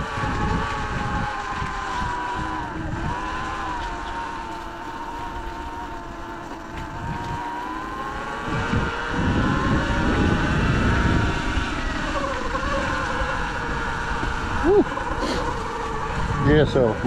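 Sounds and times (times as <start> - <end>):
electric motor whining: 0.0 - 17.0
wind rumble on microphone: 0.0 - 17.0.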